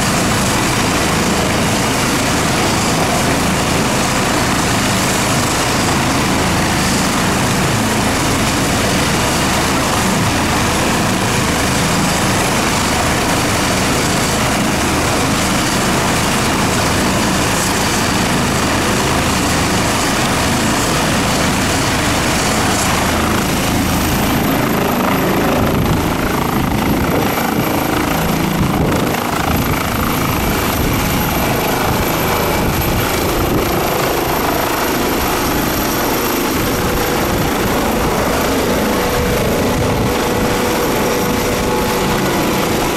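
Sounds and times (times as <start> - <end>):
helicopter turbines and rotor: 0.0 - 42.9
high turbine whine: 0.0 - 42.9.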